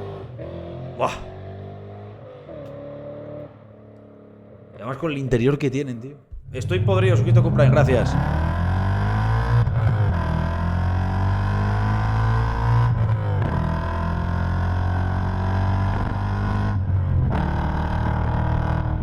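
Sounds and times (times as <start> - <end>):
car engine revving hard: 0.0 - 4.3, 6.4 - 19.0.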